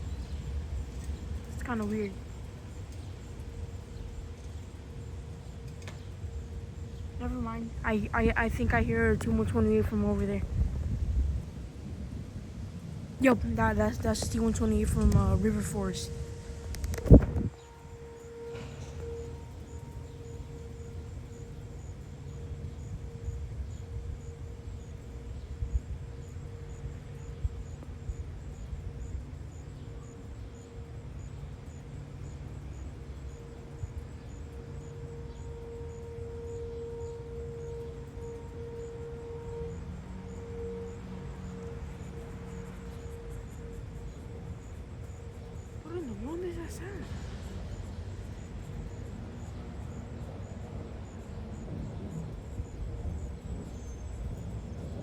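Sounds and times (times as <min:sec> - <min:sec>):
distant warning siren: 0:00.0 - 0:55.0
faint low hum: 0:00.0 - 0:55.0
insect chirping: 0:00.0 - 0:55.0
low outdoor rumble: 0:00.0 - 0:55.0.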